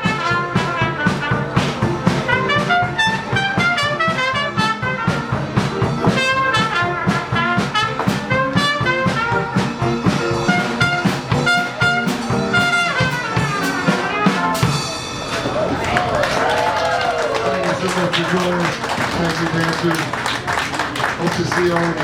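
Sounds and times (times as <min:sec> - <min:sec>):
brass horns melody: 0:00.0 - 0:22.0
traditional jazz band playing: 0:00.0 - 0:22.0.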